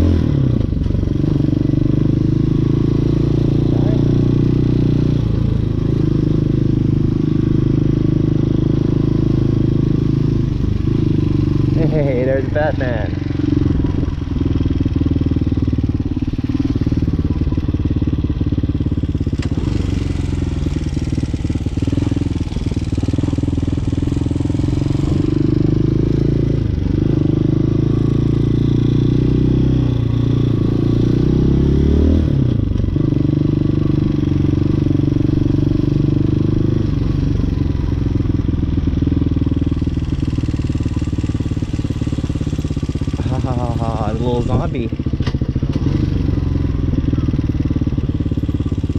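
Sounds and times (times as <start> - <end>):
dirt bike engine revving: 1.2 - 17.9, 19.1 - 37.9, 39.8 - 47.5.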